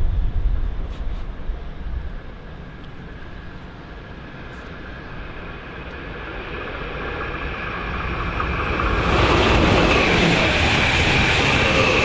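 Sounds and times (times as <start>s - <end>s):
approaching train rumble: 0.0s - 12.0s.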